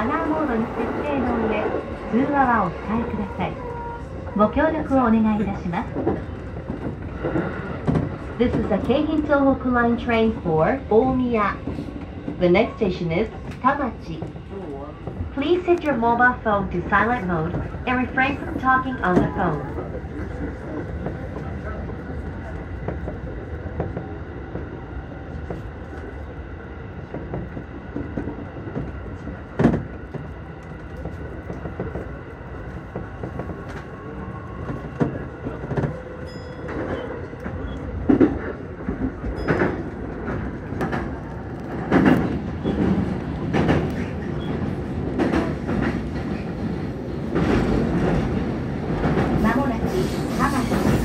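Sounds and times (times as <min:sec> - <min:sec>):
train rumble: 0:00.0 - 0:51.0.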